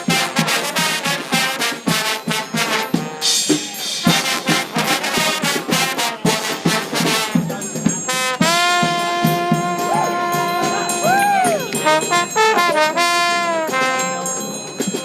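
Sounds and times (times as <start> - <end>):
trombone choir playing chords: 0.0 - 14.8
steady drum beats: 0.0 - 15.0.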